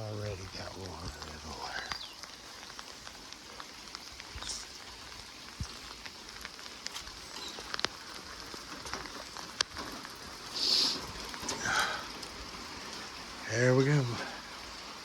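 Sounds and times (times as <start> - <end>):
rain hissing: 0.0 - 15.0
raindrops tapping: 0.0 - 15.0.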